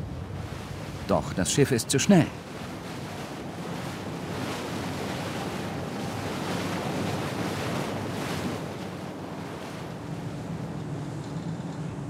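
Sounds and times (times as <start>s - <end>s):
wind on microphone: 0.0s - 1.2s, 2.3s - 12.0s
water rushing in bow wave: 0.0s - 11.2s.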